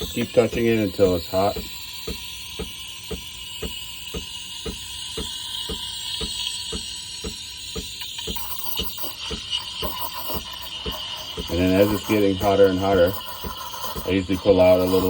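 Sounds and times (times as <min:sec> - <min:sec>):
machine ticking: 0:00.0 - 0:15.0
steam wand hissing in milk: 0:00.0 - 0:15.0.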